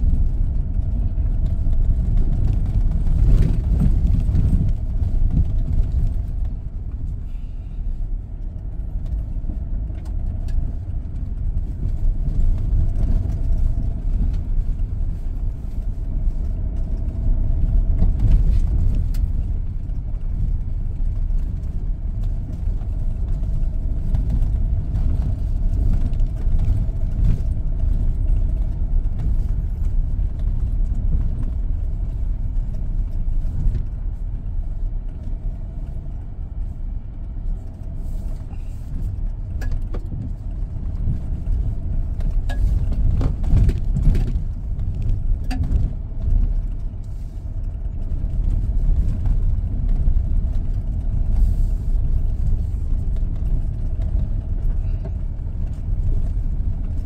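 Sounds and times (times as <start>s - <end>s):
faint constant hum: 0.0s - 57.0s
pickup engine rumbling: 0.0s - 57.0s.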